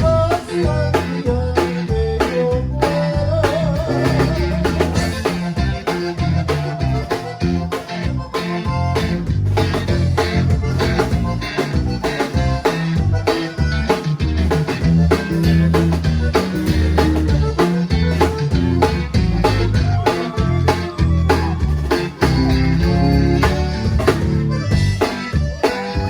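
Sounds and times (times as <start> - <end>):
band playing with plucked strings: 0.0 - 26.0.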